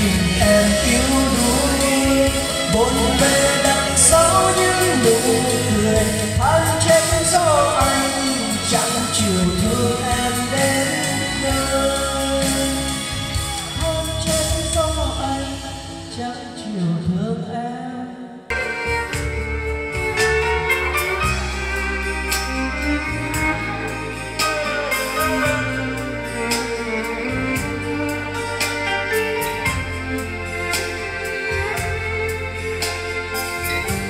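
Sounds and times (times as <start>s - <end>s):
song with singing and heavy bass: 0.0s - 34.0s.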